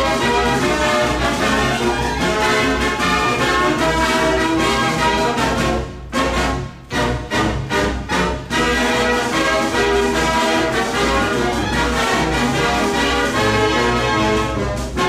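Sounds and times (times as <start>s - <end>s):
brass background music: 0.0s - 15.0s.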